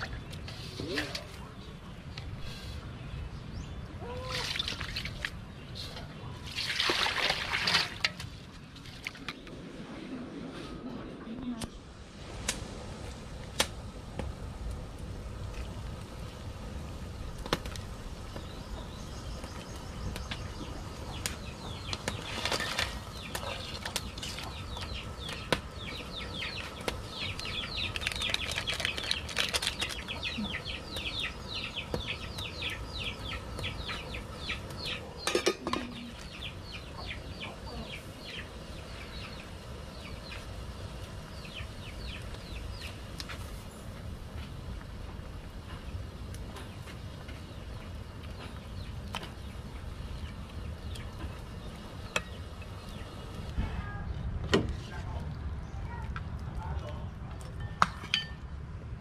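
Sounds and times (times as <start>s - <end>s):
pot boiling: 0.0s - 9.9s, 11.5s - 59.0s
wood fire crackling: 0.0s - 59.0s.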